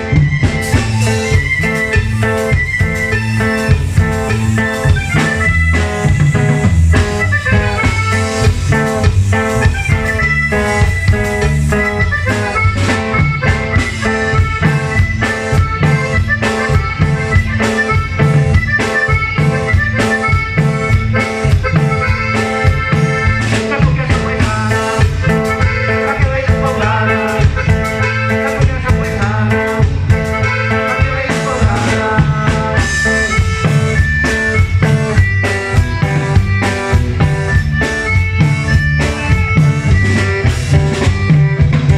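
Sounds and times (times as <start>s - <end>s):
accordion melody: 0.0s - 41.9s
bass: 0.0s - 41.9s
drum kit beat: 0.0s - 41.9s
guitar strings: 0.0s - 41.9s.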